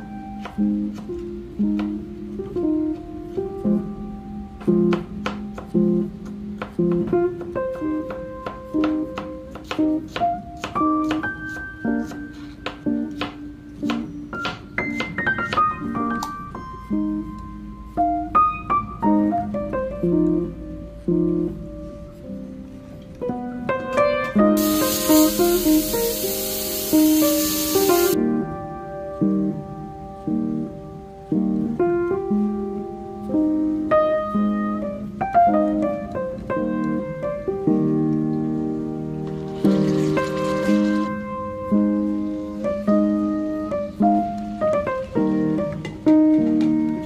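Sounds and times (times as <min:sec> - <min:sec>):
gentle piano music: 0:00.0 - 0:47.0.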